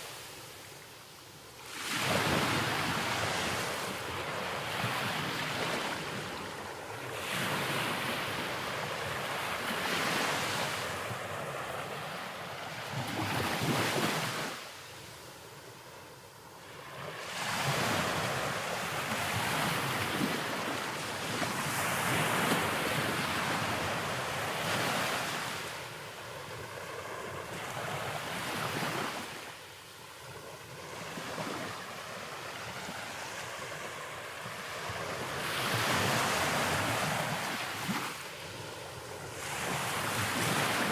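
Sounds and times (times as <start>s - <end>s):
wind: 0.0s - 40.9s.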